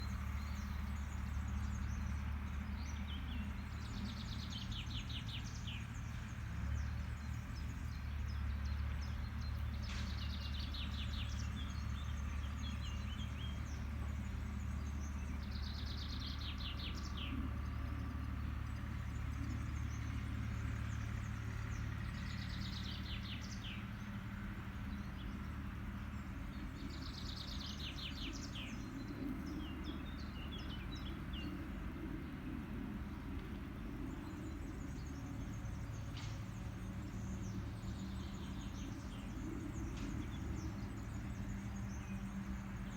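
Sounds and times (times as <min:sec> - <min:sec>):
distant machine engine drone: 0:00.0 - 0:42.9.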